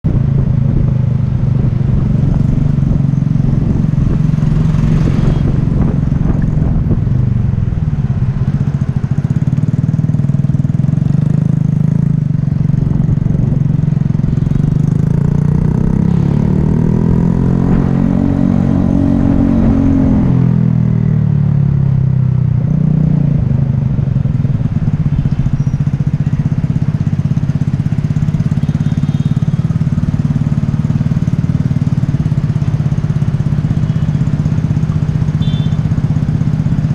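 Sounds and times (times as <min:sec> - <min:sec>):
motorcycle engine revving: 0:00.1 - 0:36.9.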